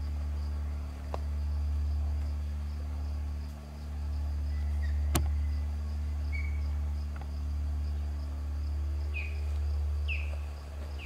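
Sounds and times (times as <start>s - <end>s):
crickets trilling: 0.0s - 11.0s
steady low rumble: 0.0s - 11.0s.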